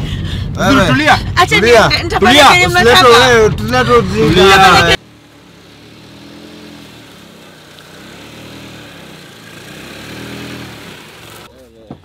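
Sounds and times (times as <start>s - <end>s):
car engine running: 0.0s - 11.5s.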